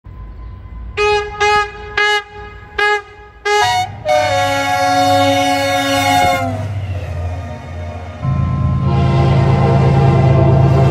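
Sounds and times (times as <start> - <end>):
locomotive engine rumble: 0.1 - 10.9
locomotive horn: 0.9 - 10.9.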